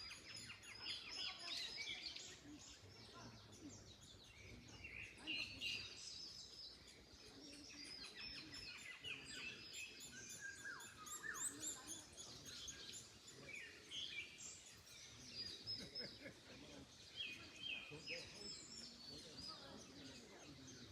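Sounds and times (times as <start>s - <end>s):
birds chirping and singing: 0.0s - 20.9s.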